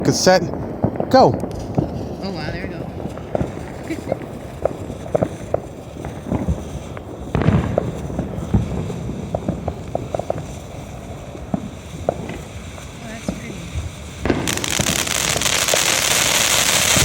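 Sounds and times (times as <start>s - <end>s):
firework crackles and pops: 0.0s - 17.0s
firework fountains rushing: 0.0s - 17.0s.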